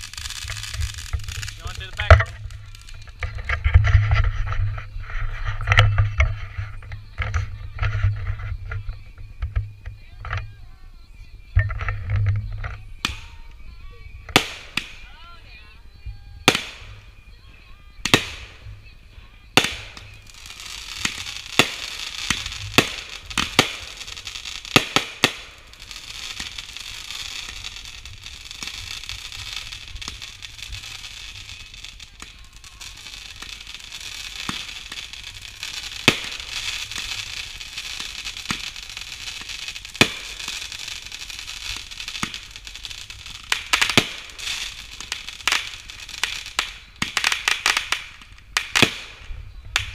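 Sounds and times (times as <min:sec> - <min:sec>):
fireworks bangs: 0:00.0 - 0:49.9
fireworks crackling hiss: 0:00.0 - 0:49.9.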